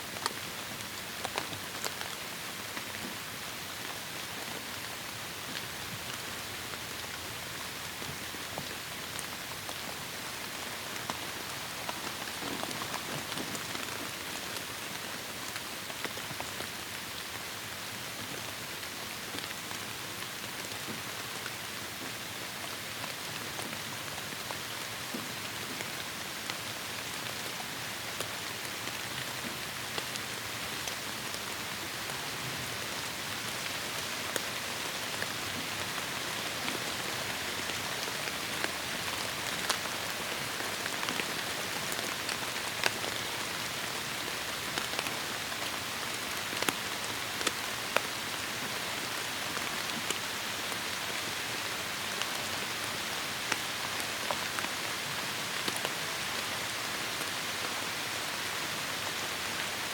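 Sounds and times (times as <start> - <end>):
heavy rain in forest: 0.0 - 59.9.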